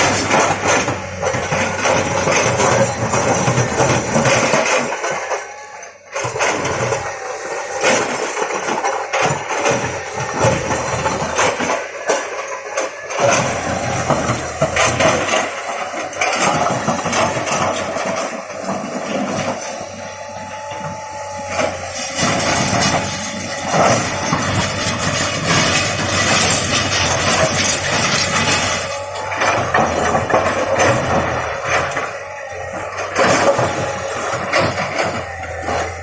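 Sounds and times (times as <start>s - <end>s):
excavator diesel engine: 0.0s - 36.0s
knocks and clanks: 0.0s - 36.0s.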